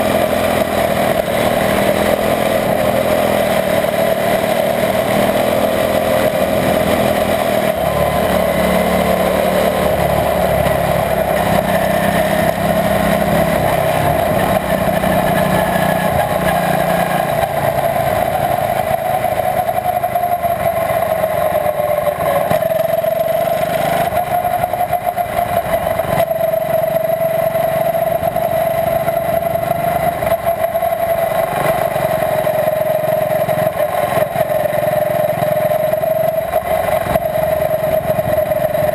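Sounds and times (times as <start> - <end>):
small race car engine running: 0.0 - 38.9.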